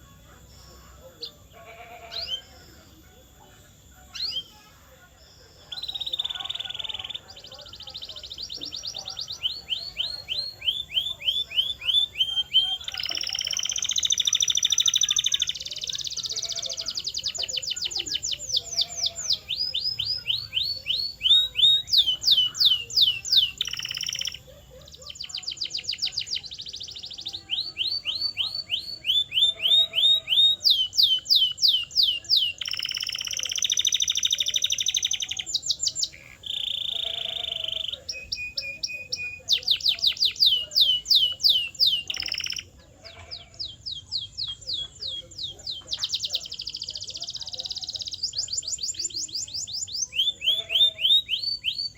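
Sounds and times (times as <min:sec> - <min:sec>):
canary singing: 0:00.0 - 0:51.9.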